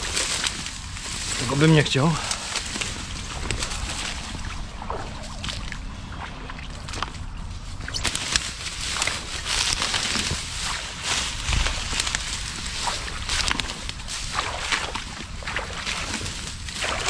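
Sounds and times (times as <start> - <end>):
brush rustling against legs: 0.0 - 17.0
water sloshing from wading: 2.3 - 17.0.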